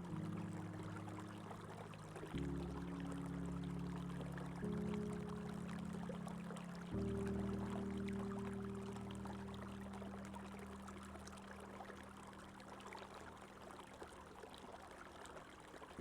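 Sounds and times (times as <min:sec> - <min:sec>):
low background music chord: 0:00.0 - 0:13.0
running water: 0:00.0 - 0:16.0.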